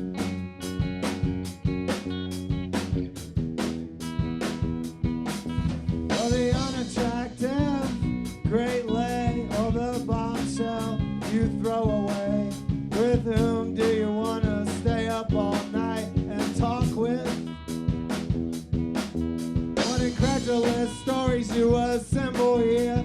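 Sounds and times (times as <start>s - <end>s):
guitar chords: 0.0s - 23.0s
drum beat: 0.2s - 23.0s.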